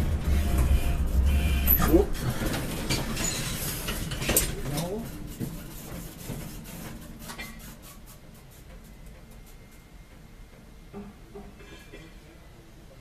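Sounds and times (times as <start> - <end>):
tram mechanical hum and rattle: 0.0 - 13.0.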